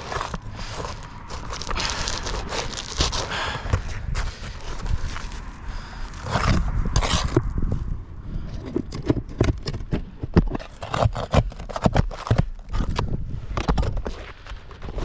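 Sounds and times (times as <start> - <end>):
tool scraping roof shingles: 0.0 - 7.5, 8.4 - 15.0.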